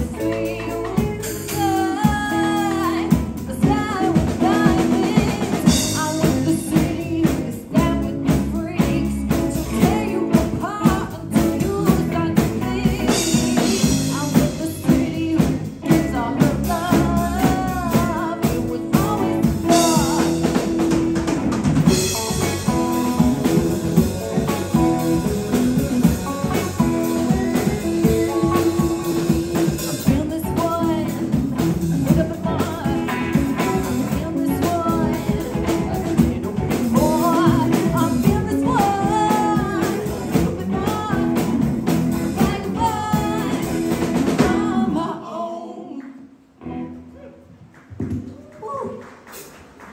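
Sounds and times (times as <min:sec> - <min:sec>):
woman singing: 0:00.0 - 0:20.9, 0:21.9 - 0:46.3
rock band playing: 0:00.0 - 0:45.0, 0:46.6 - 0:47.1.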